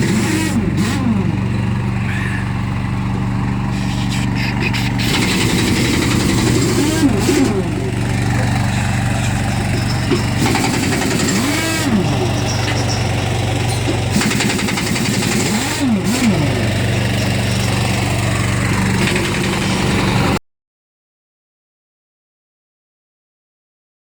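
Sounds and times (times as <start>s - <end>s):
truck engine idling: 0.0s - 20.4s.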